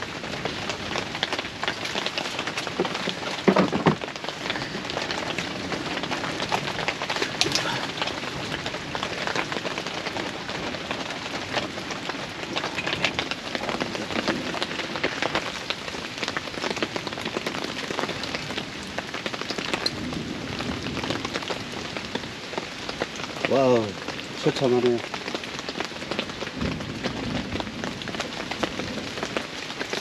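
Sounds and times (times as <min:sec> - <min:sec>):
rain pattering: 0:00.0 - 0:30.0.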